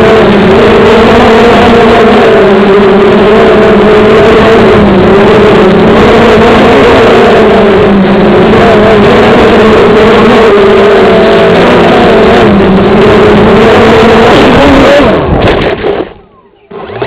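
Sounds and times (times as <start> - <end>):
model aircraft motors buzzing: 0.0 - 16.0.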